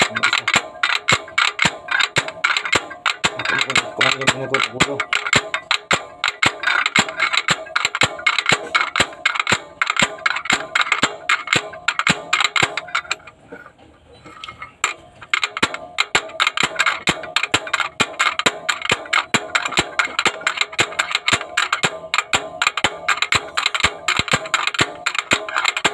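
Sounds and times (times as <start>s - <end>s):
slide hammer knocking metal: 0.0s - 25.9s.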